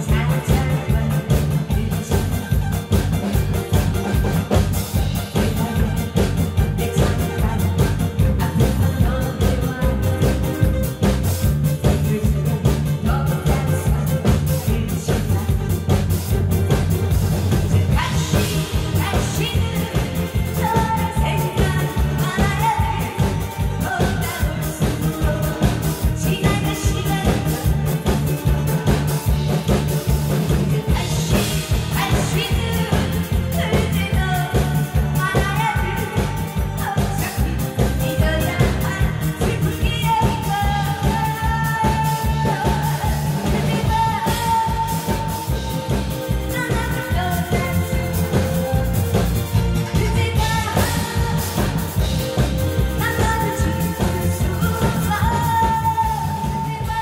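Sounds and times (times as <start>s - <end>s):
backing track with steady beat: 0.0s - 57.0s
woman singing into a microphone: 0.0s - 57.0s.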